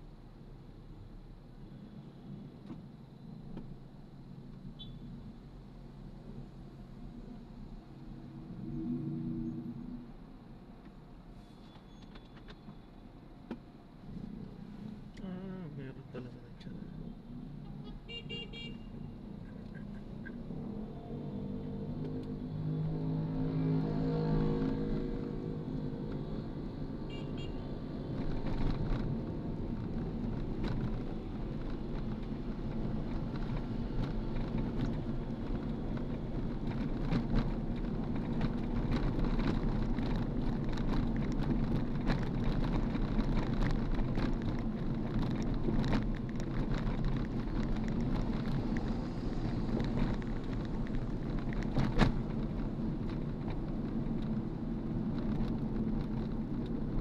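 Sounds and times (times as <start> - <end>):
vehicle and road rumble: 0.0 - 57.0.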